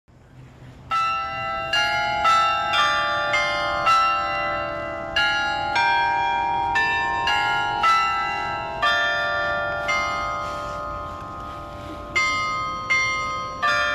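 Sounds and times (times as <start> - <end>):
carillon bells playing slow melody: 0.9 - 13.9.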